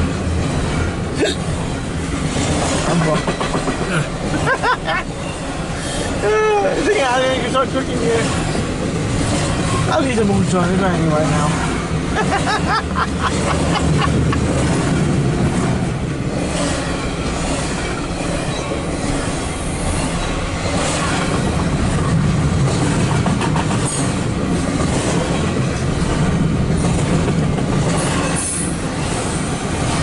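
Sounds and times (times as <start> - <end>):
rail clicks: 0.0 - 30.0
train wheels rumbling on rails: 0.0 - 30.0.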